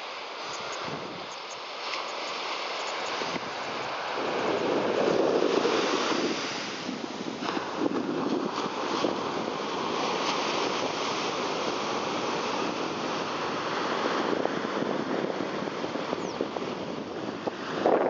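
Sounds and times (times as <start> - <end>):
ocean surf washing ashore: 0.0 - 18.0.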